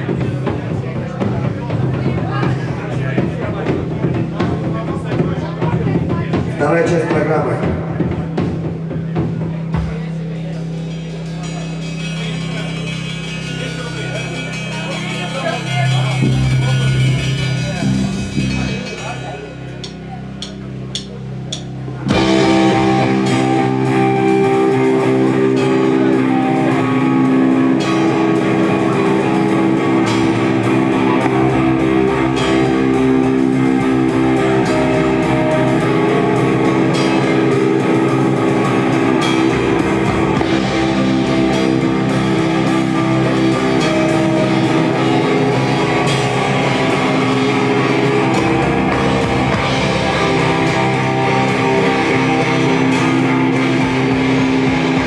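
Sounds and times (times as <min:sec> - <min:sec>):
drum kit beat: 0:00.0 - 0:55.0
sustained guitar chords: 0:00.0 - 0:55.0.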